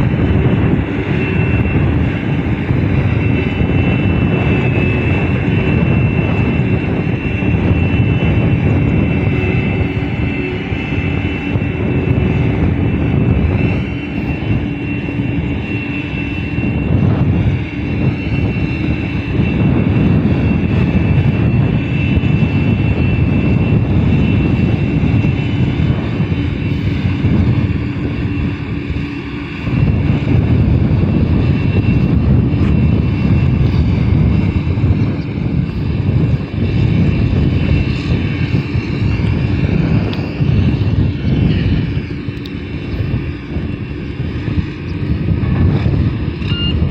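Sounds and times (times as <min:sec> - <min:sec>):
diesel engine drone: 0:00.0 - 0:46.9
machine whine: 0:00.0 - 0:46.9.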